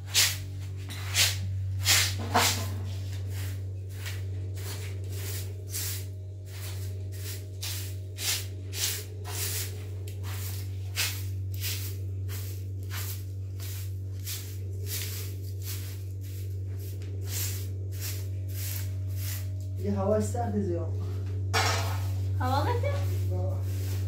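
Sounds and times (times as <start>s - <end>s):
broom sweeping carpet: 0.0s - 20.2s, 21.0s - 24.0s
steady low hum: 0.0s - 24.0s.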